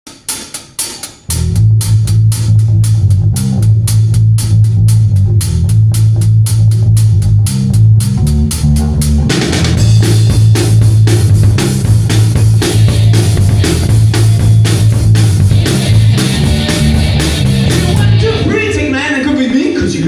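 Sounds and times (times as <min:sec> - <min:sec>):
drum kit beat: 0:00.0 - 0:20.0
band playing live: 0:00.8 - 0:20.0
bass guitar: 0:01.2 - 0:20.0.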